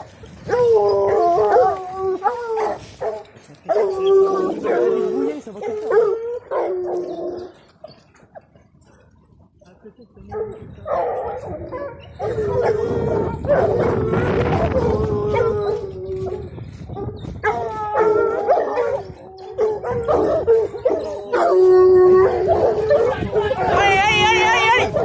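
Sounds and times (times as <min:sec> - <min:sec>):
hounds baying and howling: 0:00.0 - 0:09.2, 0:10.2 - 0:25.0.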